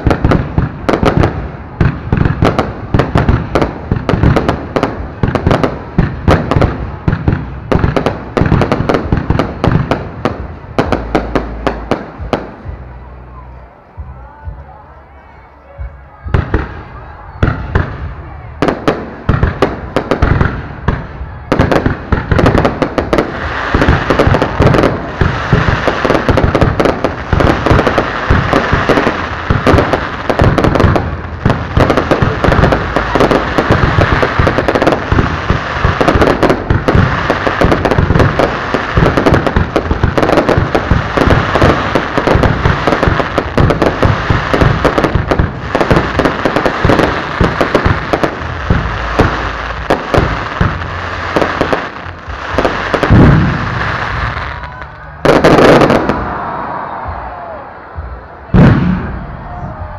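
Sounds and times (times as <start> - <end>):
fireworks banging: 0.0 - 13.0, 16.2 - 59.9.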